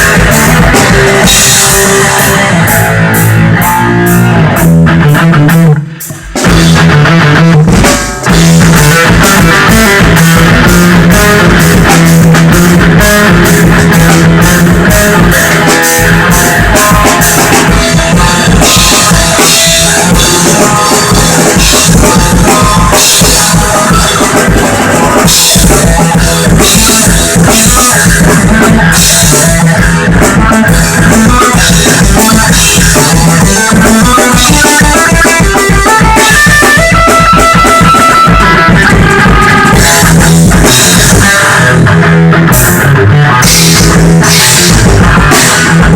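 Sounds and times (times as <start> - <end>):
drum kit playing: 0.0 - 45.9
electric guitar playing: 0.0 - 45.9.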